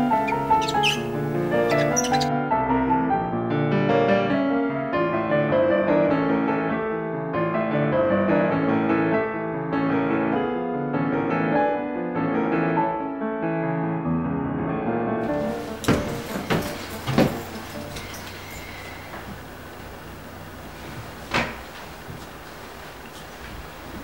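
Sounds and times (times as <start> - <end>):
piano music: 0.0 - 20.7.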